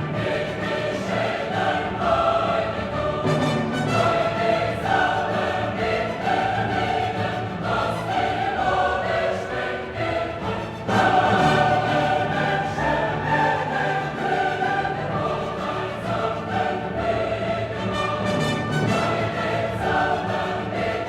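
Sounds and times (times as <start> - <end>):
choir singing held notes: 0.0 - 21.0.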